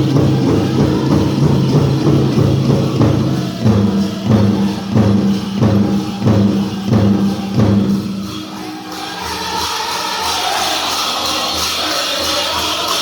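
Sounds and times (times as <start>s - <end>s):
large drum beating steadily: 0.0s - 11.9s.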